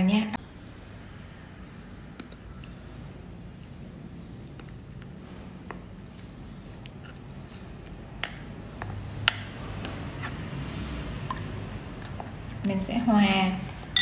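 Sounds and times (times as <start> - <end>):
low steady hum: 0.0 - 14.0
spoon stirring wet mixture: 0.4 - 14.0.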